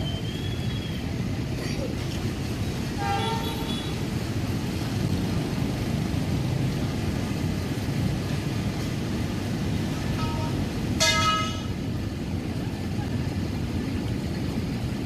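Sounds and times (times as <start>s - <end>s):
low rumble of vehicle engines: 0.0s - 15.0s.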